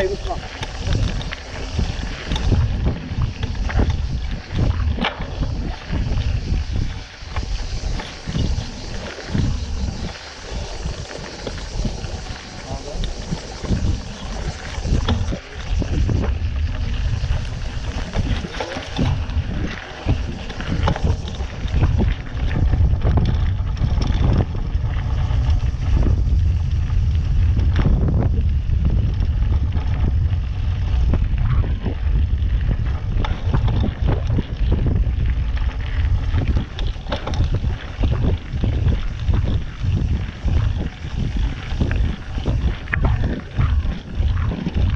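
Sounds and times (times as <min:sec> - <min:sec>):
bike rattling and knocking: 0:00.0 - 0:44.9
wind buffeting microphone: 0:00.0 - 0:44.9.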